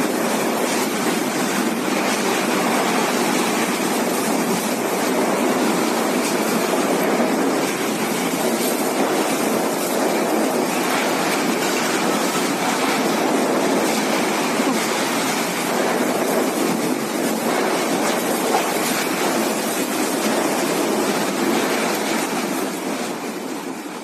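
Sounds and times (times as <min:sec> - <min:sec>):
driving rain: 0:00.0 - 0:24.0
storm winds: 0:00.0 - 0:24.0.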